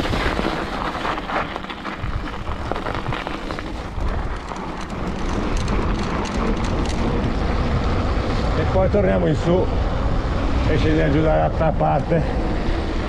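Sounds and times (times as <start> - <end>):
bike tyres crunching on snow: 0.0 - 13.0
wind buffeting microphone: 0.0 - 13.0.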